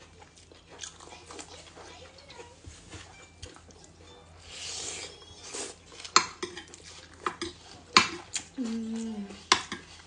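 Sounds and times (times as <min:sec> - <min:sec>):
chewing and mouth sounds: 0:00.0 - 0:04.0, 0:05.6 - 0:10.0.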